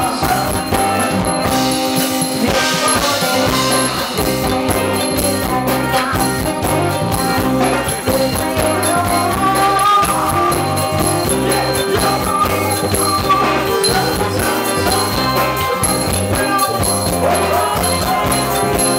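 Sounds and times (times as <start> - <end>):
dance band playing: 0.0 - 18.9
steady drum beat: 0.0 - 18.9.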